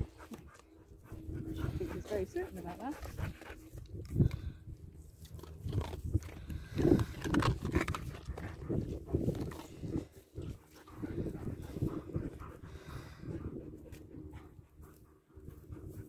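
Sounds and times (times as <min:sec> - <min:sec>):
dogs sniffing and snuffling: 0:00.0 - 0:16.0.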